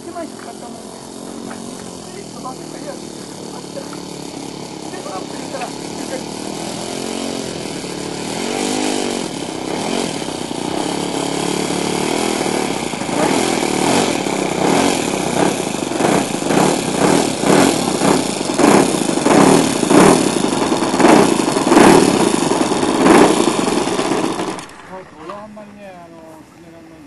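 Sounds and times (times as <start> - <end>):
model plane engine running: 0.0 - 27.0.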